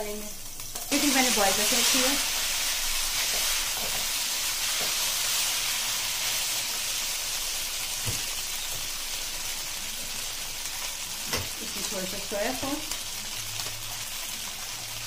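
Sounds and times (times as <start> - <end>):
frying hiss: 0.0 - 15.0.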